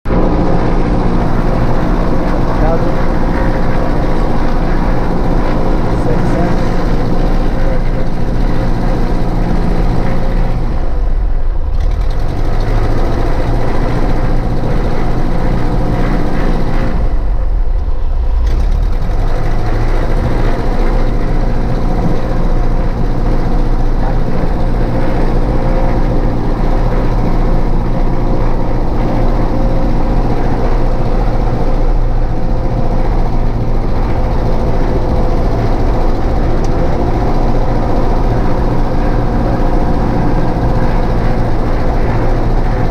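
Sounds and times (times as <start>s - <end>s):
airplane piston engine and propeller: 0.1s - 42.9s.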